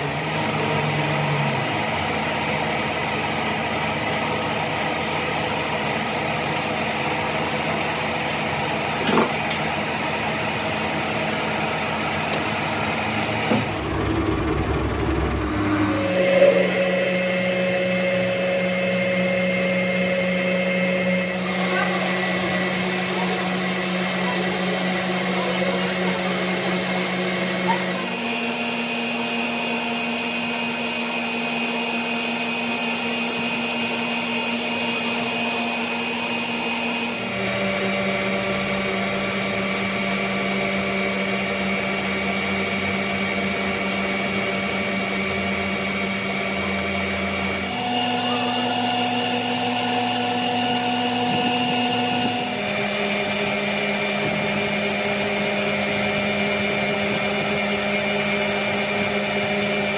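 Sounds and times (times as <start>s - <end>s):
electric motor humming: 8.6s - 59.9s.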